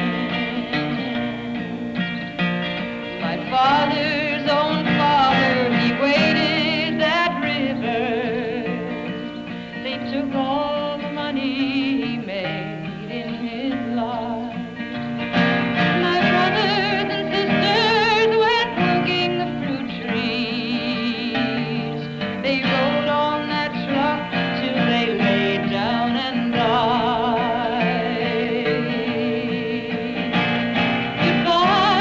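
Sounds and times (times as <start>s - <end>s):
woman singing with vibrato: 0.0s - 2.0s, 2.8s - 32.0s
guitar accompaniment: 0.0s - 32.0s.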